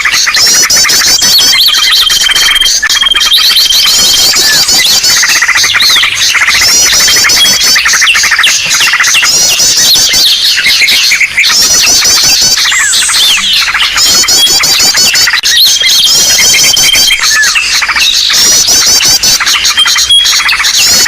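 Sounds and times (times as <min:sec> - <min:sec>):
chorus of small birds calling: 0:00.0 - 0:21.0.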